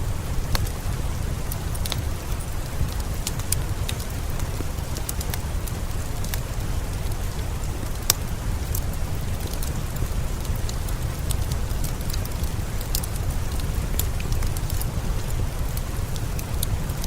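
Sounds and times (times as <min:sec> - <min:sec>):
steady rain: 0:00.0 - 0:17.0
wood fire crackling and popping: 0:00.0 - 0:17.0.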